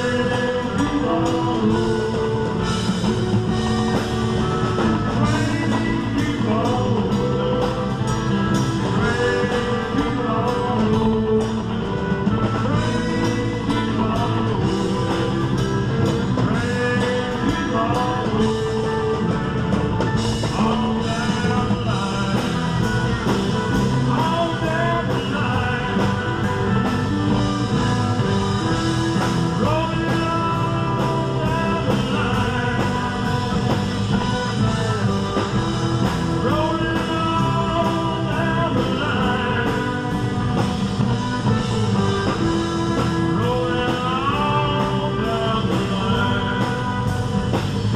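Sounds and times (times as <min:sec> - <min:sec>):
live rock band playing: 0:00.0 - 0:47.9
person singing: 0:00.0 - 0:47.9.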